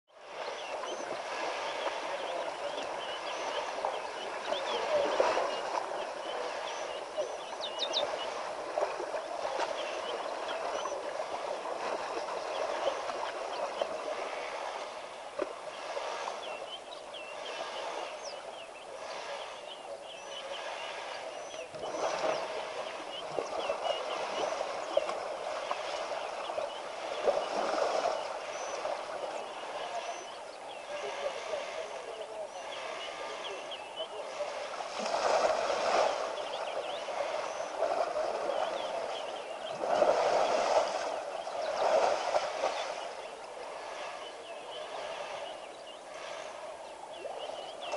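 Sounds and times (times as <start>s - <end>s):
birds chirping: 0.1s - 47.9s.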